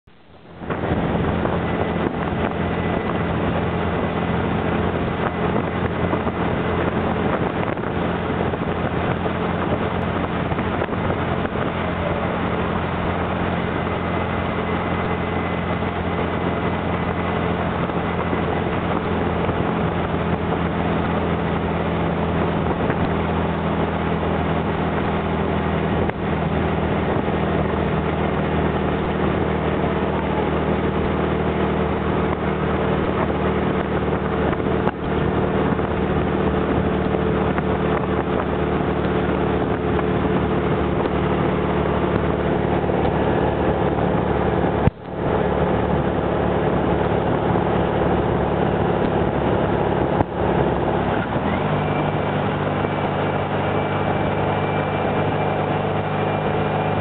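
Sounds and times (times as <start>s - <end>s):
buggy engine cruising: 0.0s - 57.0s
wind and road noise: 0.0s - 57.0s.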